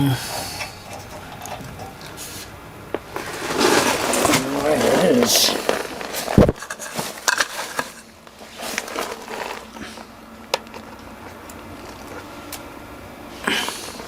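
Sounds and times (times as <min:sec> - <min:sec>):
faint steady hum: 0:00.0 - 0:14.0
clicks and rustles of handling: 0:00.3 - 0:12.7.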